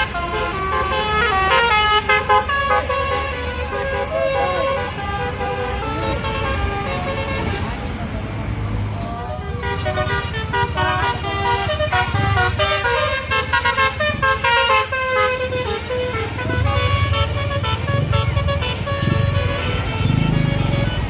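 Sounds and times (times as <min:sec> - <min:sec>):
multi-tone air horn tune: 0:00.0 - 0:07.9, 0:09.3 - 0:21.0
bus engines rumbling: 0:00.0 - 0:21.0.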